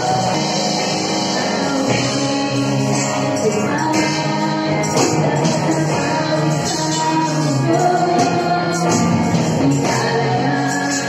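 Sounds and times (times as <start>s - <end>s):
drums: 0.0s - 11.0s
electric guitar: 0.0s - 11.0s
people singing: 0.0s - 11.0s.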